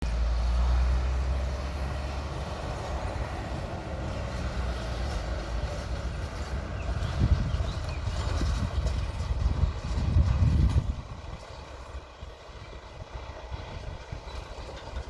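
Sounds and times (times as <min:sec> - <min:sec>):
wind buffeting microphone: 0:00.2 - 0:15.0.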